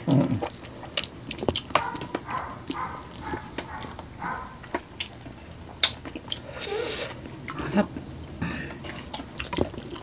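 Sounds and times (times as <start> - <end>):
people chewing and sucking: 0.0 - 10.0.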